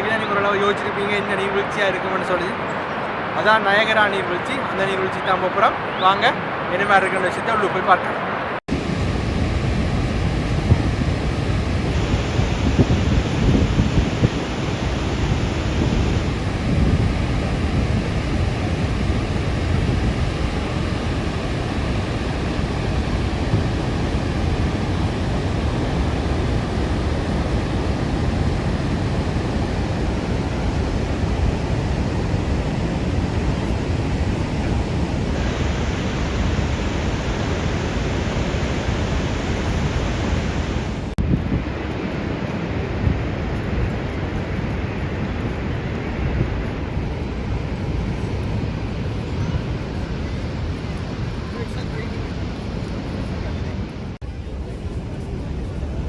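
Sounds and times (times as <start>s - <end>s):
waterfall roaring: 0.0s - 54.2s
wind noise on microphone: 8.7s - 56.0s.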